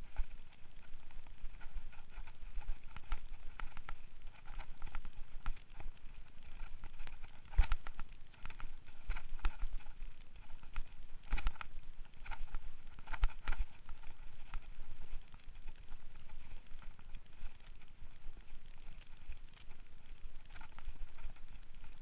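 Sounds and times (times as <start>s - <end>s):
mountain bike rattling: 0.0s - 22.0s.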